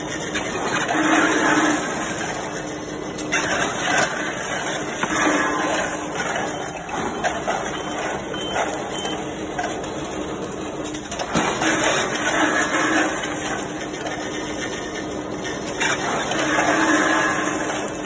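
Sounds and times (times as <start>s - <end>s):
factory machinery running: 0.0s - 18.0s.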